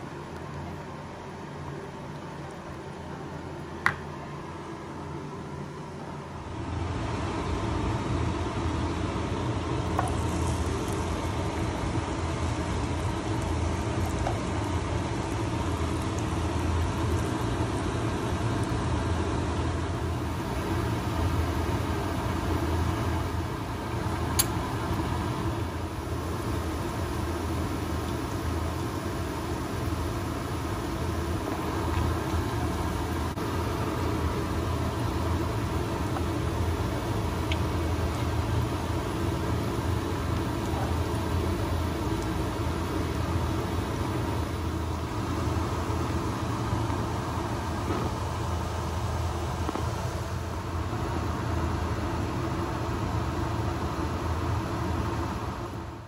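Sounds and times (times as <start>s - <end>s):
batter sizzling in hot oil: 6.8s - 55.8s.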